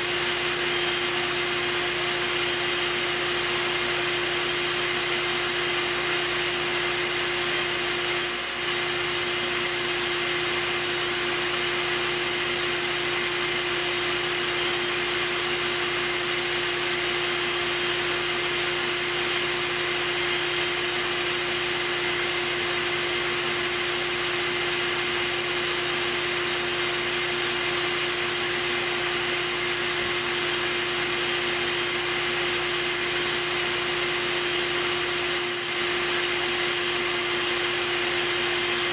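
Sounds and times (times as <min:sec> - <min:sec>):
vacuum motor whining: 0:00.0 - 0:38.9.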